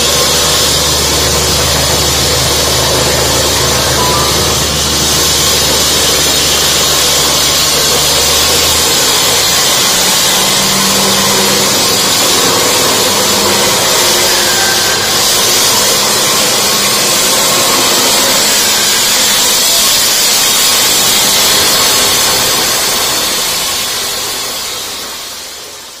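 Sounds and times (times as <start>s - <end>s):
concrete saw grinding: 0.0s - 26.0s.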